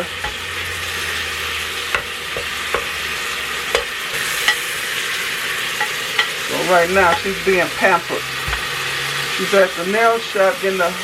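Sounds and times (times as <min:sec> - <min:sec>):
meat sizzling: 0:00.0 - 0:11.0.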